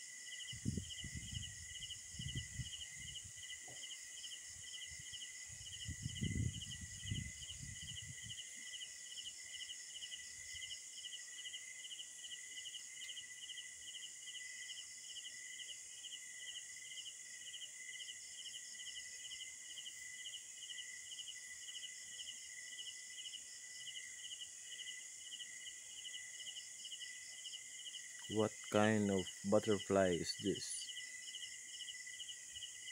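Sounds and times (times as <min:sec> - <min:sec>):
insect trill: 0:00.0 - 0:32.9
pulsing insect chirp: 0:00.0 - 0:32.9.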